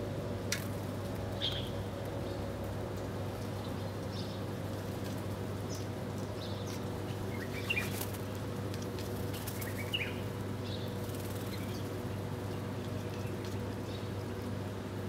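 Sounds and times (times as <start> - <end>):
sparrows chirping: 1.3 - 2.6, 3.2 - 8.6, 9.2 - 14.9.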